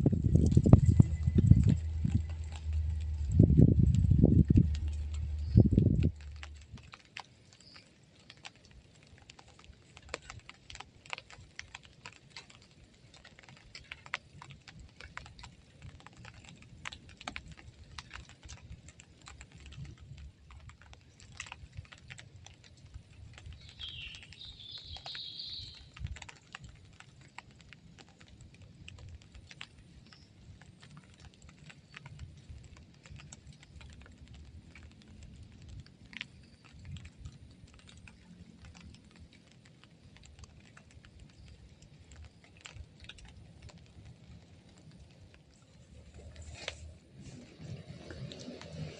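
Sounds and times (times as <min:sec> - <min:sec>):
raindrops tapping on shelter: 0:00.0 - 0:48.9.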